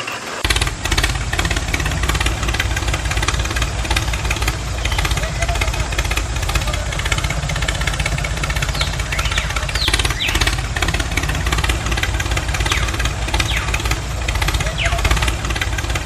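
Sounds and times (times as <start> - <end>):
diesel engine idling: 0.2 - 16.0
high falling chirps: 0.2 - 16.0.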